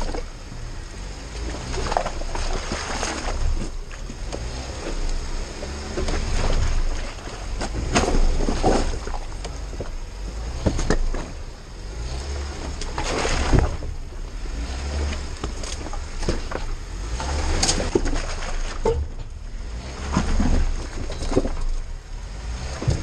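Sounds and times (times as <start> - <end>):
low engine rumble: 0.0 - 23.0
tyres crunching over stone: 0.0 - 23.0.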